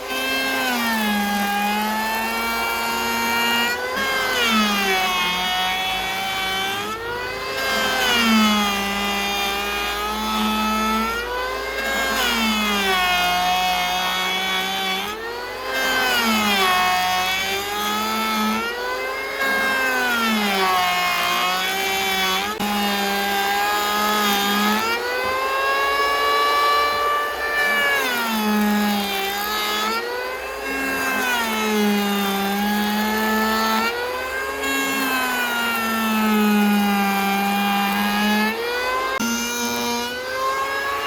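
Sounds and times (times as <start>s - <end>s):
small engine labouring: 0.0s - 41.0s.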